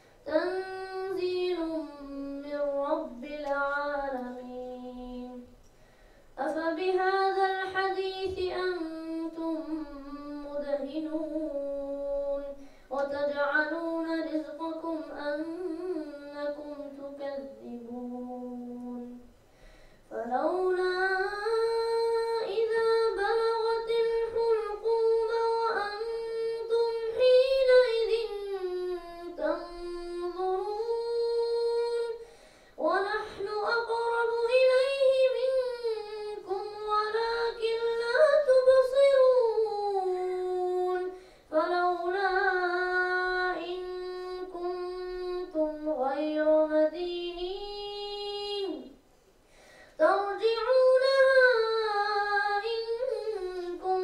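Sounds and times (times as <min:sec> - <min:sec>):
boy chanting into a microphone: 0:00.2 - 0:05.5, 0:06.4 - 0:19.4, 0:20.1 - 0:32.2, 0:32.8 - 0:49.0, 0:50.0 - 0:54.0.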